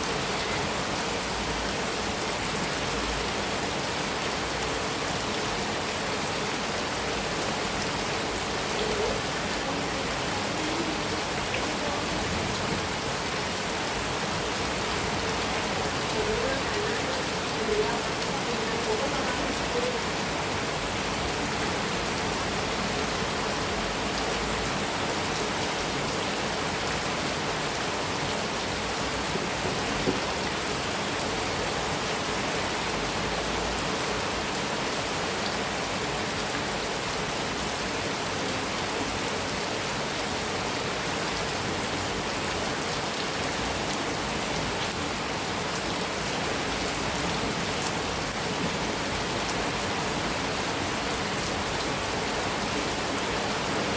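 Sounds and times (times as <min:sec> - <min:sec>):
heavy rain on a metal roof: 0:00.0 - 0:53.9.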